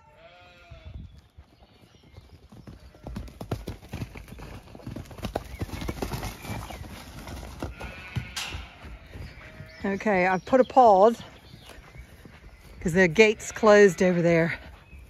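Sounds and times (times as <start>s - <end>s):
horses galloping on soft ground: 0.6s - 15.0s.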